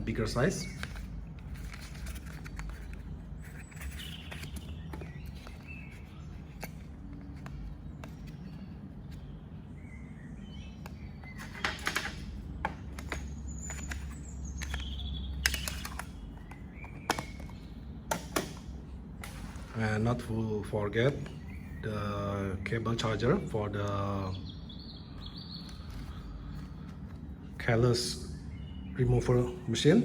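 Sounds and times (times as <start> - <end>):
birds chirping: 0.0 - 30.0
steady low hum: 0.0 - 30.0.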